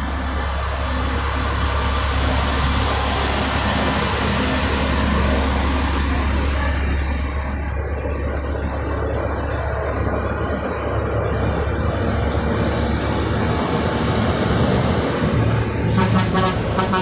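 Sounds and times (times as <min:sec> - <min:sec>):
truck passing with engine rumble: 0:00.0 - 0:17.0
tyre and road noise: 0:00.0 - 0:17.0.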